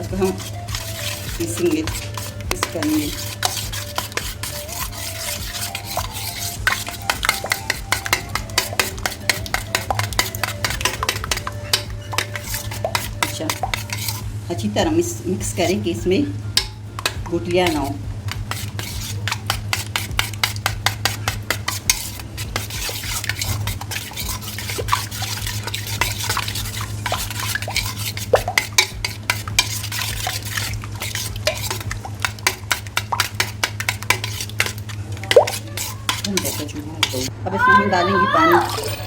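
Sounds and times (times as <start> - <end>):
utensil beating batter in bowl: 0.0 - 37.3
steady low hum: 0.0 - 37.5.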